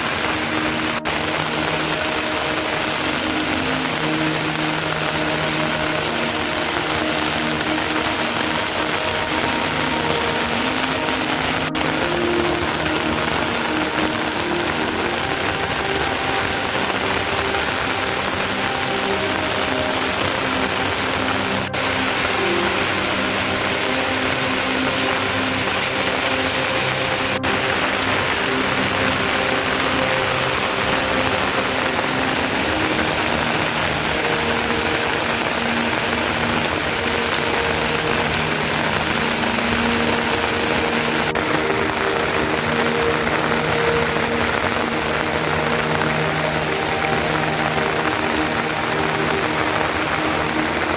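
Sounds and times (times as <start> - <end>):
heavy rain: 0.0 - 50.9
low held notes: 0.0 - 50.9.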